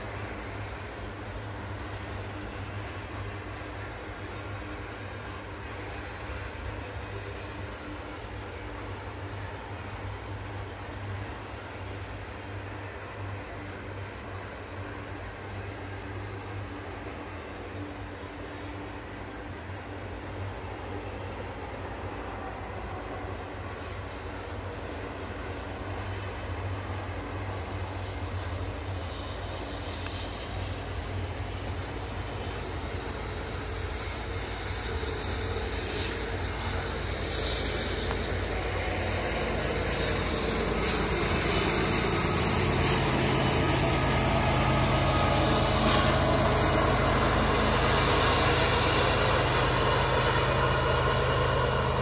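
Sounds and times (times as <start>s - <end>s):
diesel locomotive engine hum: 0.0s - 52.0s.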